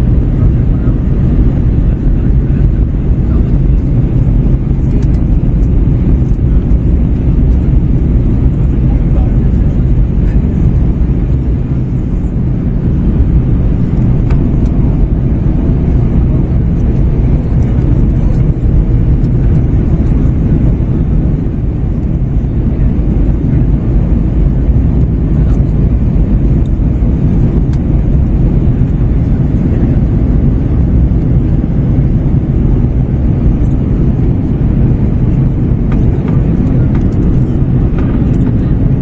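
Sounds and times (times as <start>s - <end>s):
airflow over airframe: 0.0s - 39.0s
jet engine drone in cabin: 0.0s - 39.0s.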